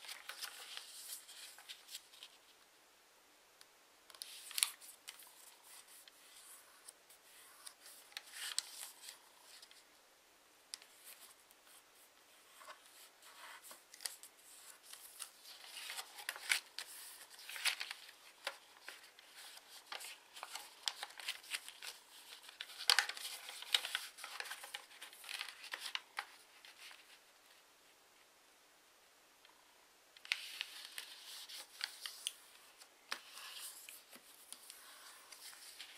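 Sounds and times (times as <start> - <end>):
paper rustling and crinkling: 0.0 - 2.6, 4.1 - 9.9, 10.8 - 27.2, 30.2 - 35.9.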